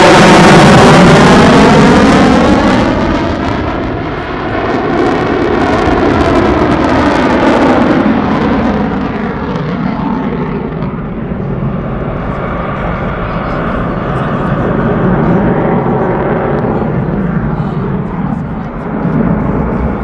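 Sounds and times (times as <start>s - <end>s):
jet engine roaring in afterburner: 0.0s - 20.0s.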